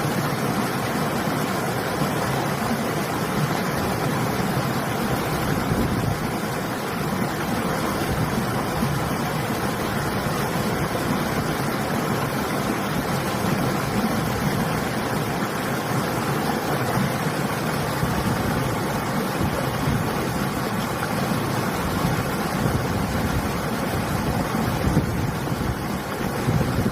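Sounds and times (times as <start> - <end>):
river flowing: 0.0 - 26.9
wind: 0.0 - 26.9.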